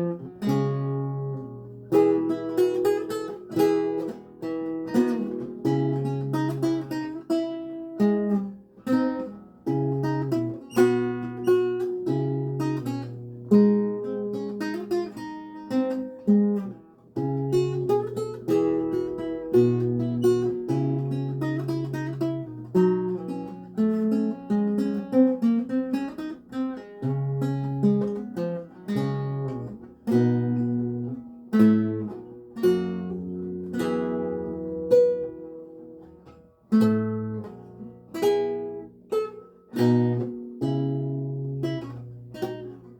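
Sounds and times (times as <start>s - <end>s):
solo lute playing: 0.0s - 42.9s.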